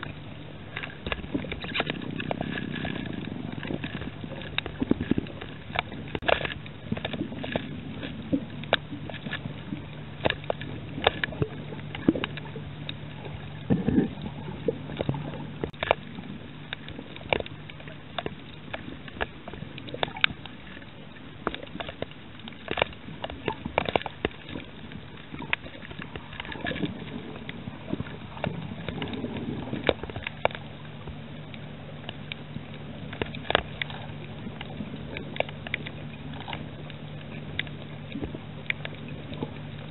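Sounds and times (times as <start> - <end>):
steady low underwater hum: 0.0 - 39.9
underwater clicks and crackles: 0.0 - 39.9.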